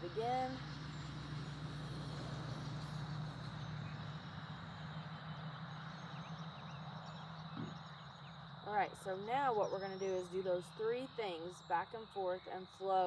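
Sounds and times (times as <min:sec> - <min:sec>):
constant low hum: 0:00.0 - 0:13.0
faint bird chirps: 0:02.1 - 0:13.0.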